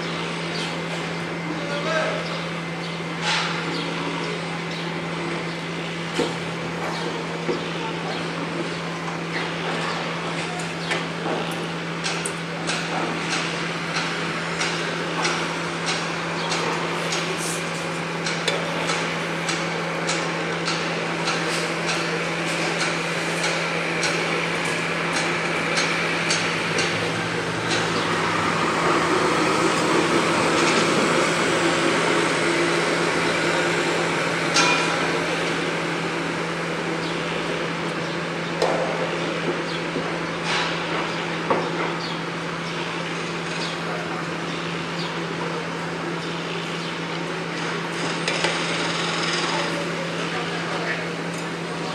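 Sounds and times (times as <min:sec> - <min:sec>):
low hum of machinery: 0:00.0 - 0:51.9.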